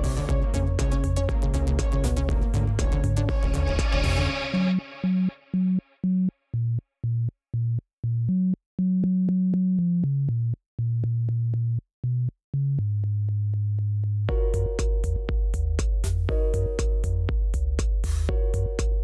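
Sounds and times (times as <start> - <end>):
synthesizer bass line: 0.0 - 19.0.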